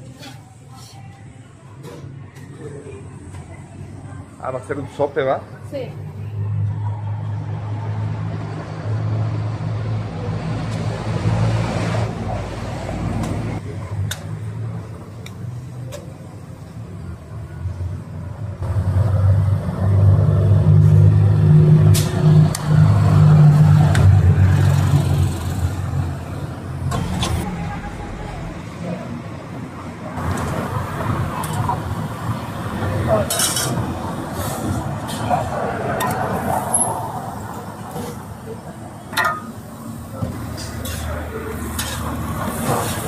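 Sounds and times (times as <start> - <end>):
vehicle engine rumbling: 5.9 - 43.0.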